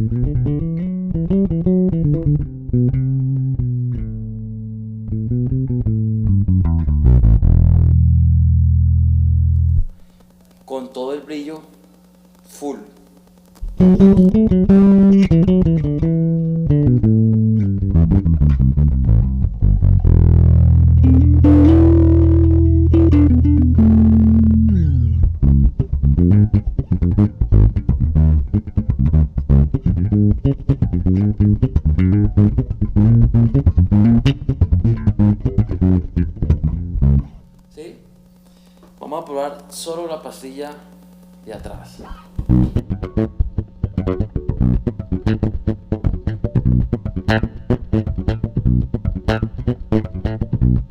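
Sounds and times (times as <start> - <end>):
electric bass notes: 0.0 - 10.3, 13.6 - 38.7, 41.7 - 50.9.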